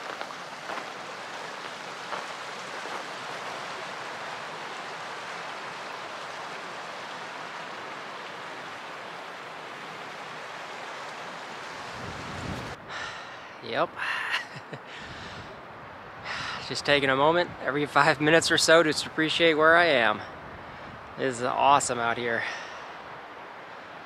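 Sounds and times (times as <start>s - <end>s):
creek rushing over rocks: 0.0s - 24.0s.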